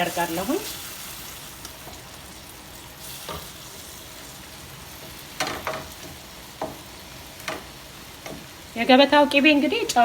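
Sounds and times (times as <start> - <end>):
onions sizzling in a pan: 0.0 - 10.0.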